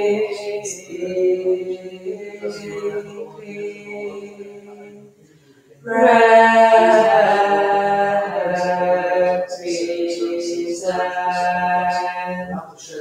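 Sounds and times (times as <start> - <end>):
voices chanting melody: 0.0 - 5.0, 5.8 - 13.0.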